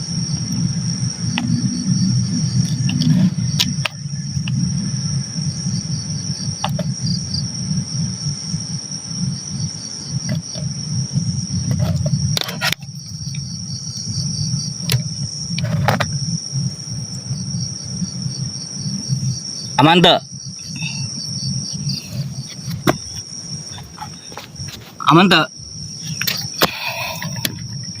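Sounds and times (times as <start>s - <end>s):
low rumble: 0.0s - 24.0s
crickets trilling: 0.0s - 28.0s.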